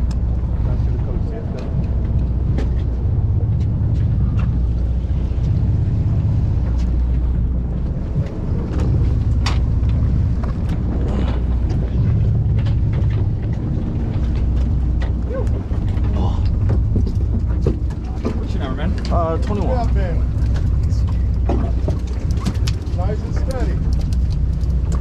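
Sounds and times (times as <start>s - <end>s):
boat engine rumbling: 0.0s - 25.0s
wind on microphone: 0.0s - 25.0s.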